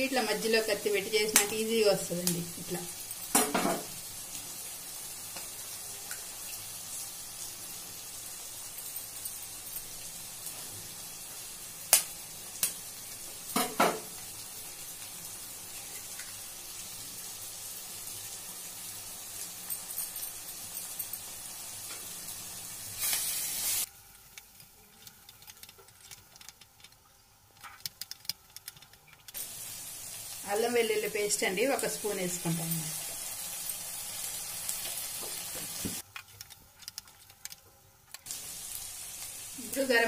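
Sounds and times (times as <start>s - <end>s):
vegetables sizzling in oil: 0.0s - 24.7s, 29.3s - 36.0s, 38.2s - 40.0s.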